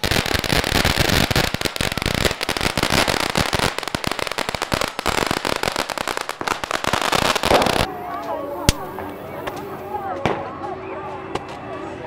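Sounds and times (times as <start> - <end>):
firecrackers crackling: 0.0 - 10.7.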